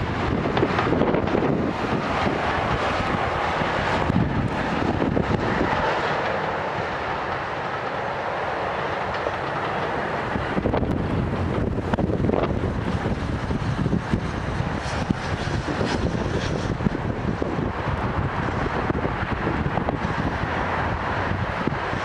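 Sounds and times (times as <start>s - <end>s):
distant steam train passing: 0.0s - 22.0s
train wheels clicking on rails: 0.0s - 22.0s
wind noise on microphone: 0.0s - 22.0s.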